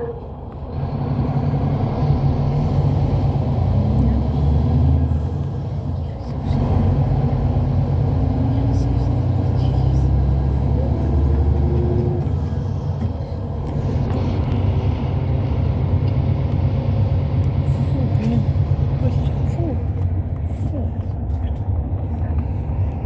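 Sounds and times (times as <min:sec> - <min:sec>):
coach engine and road noise: 0:00.0 - 0:23.0.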